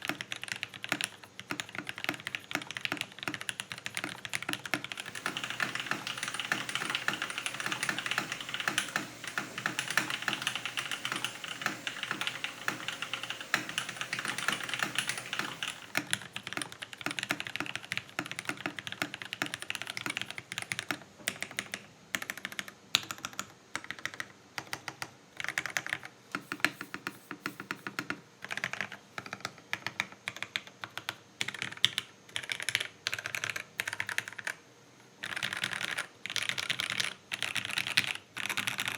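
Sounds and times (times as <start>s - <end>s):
mechanical keyboard typing: 0.0s - 34.6s, 35.2s - 38.9s.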